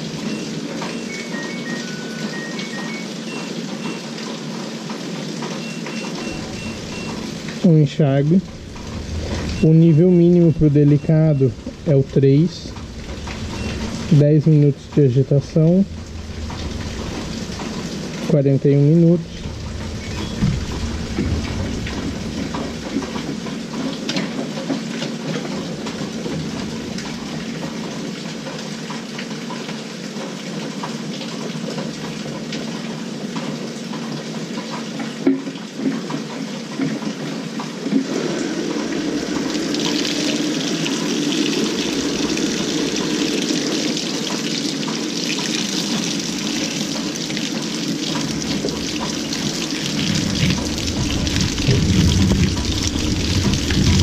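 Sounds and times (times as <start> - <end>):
washing machine filling with water: 0.0 - 54.0.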